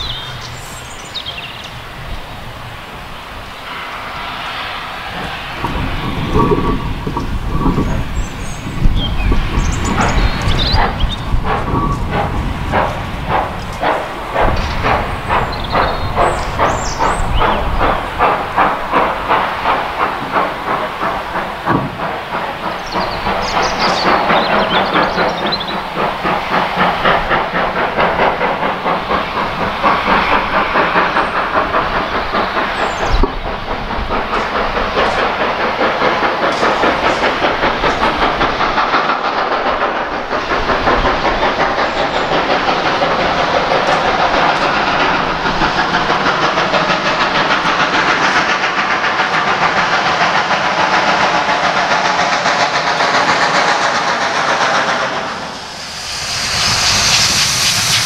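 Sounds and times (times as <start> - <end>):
steam hissing: 0.0 - 58.0
steam locomotive exhaust beating: 0.0 - 58.0.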